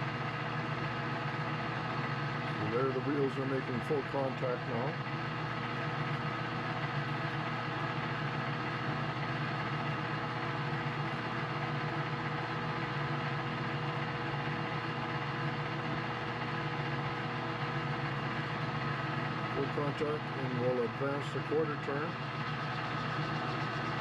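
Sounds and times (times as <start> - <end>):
metal lathe humming: 0.0 - 24.0.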